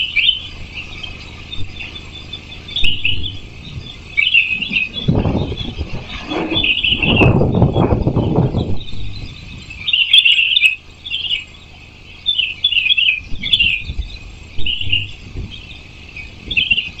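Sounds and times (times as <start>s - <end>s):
soft low rumbles: 0.0s - 10.1s, 10.8s - 17.0s
birds chirping: 0.0s - 17.0s.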